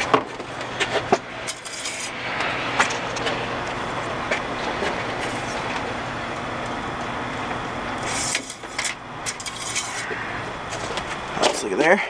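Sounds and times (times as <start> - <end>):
steady background rumble: 0.0 - 12.0.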